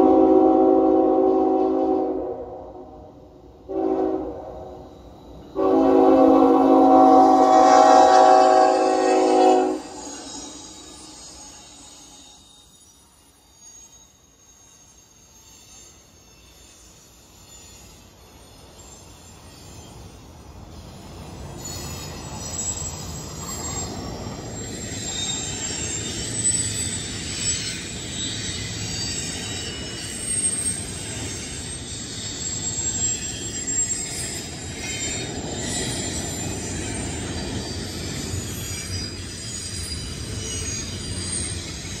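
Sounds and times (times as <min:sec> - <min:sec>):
steel wheels rumbling on rail: 0:00.0 - 0:42.0
high-pitched wheel squeal: 0:03.8 - 0:42.0.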